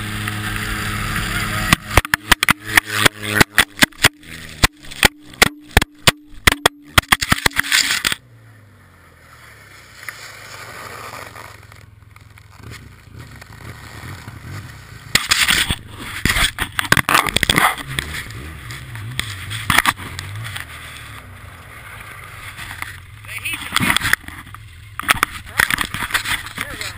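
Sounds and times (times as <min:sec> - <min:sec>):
vehicle engine idling: 0:00.0 - 0:26.9
crunching and scraping on ice: 0:00.1 - 0:08.2, 0:09.3 - 0:26.9.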